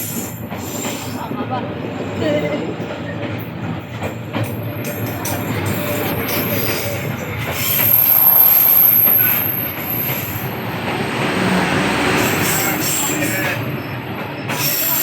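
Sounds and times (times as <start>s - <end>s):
wheels squealing on rails: 0.0s - 3.5s, 4.4s - 15.0s
train rolling past: 0.0s - 15.0s.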